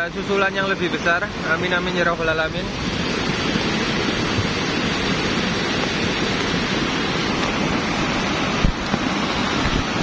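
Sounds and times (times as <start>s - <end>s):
mud flood rushing down channel: 0.0s - 10.0s.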